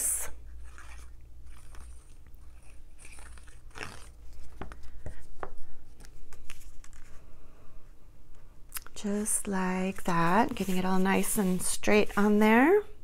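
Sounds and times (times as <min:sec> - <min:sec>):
soft paper rustling: 0:00.5 - 0:08.5, 0:09.4 - 0:12.6.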